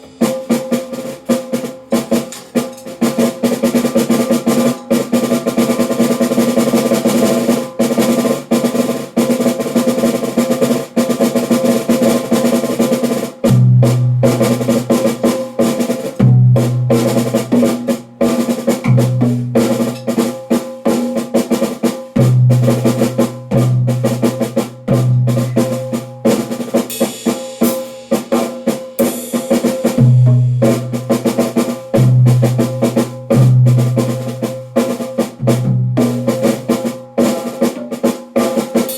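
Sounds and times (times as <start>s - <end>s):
drum roll: 0.0s - 38.9s.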